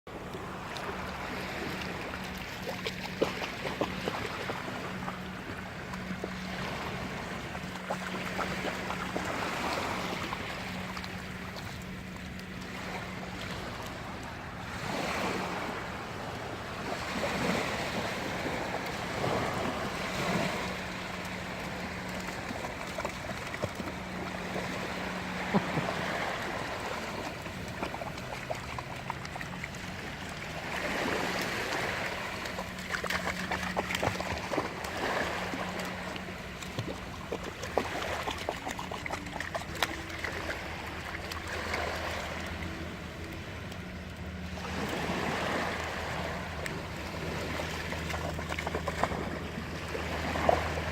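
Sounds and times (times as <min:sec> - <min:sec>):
steady low hum: 0:00.1 - 0:50.9
waves washing in and out: 0:00.1 - 0:50.9.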